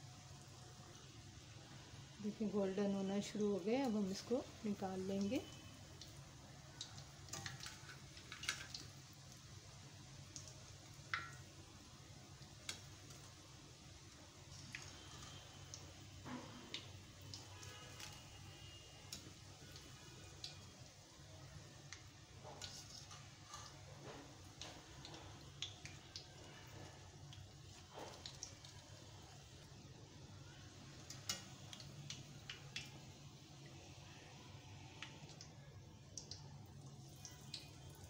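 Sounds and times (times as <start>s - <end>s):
hot oil sizzling: 0.0s - 38.0s.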